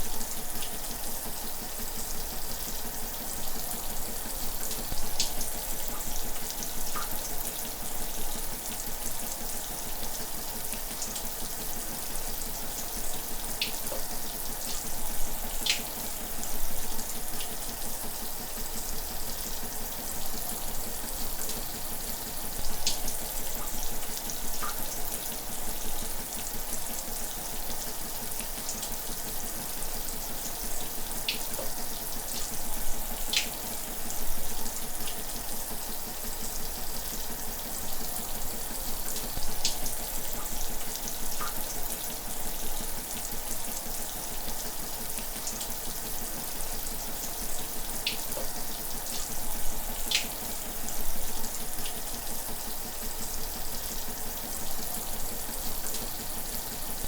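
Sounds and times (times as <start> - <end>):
shower water running: 0.0 - 57.0.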